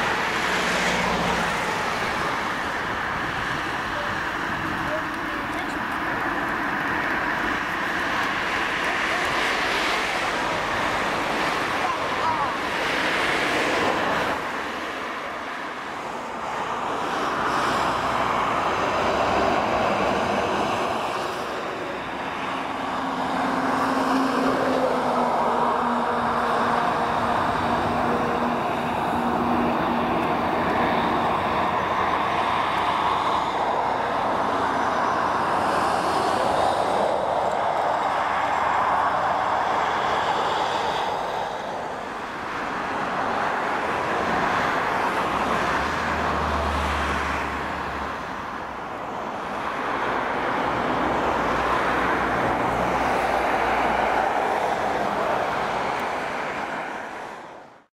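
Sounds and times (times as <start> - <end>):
road traffic rushing: 0.0 - 57.9.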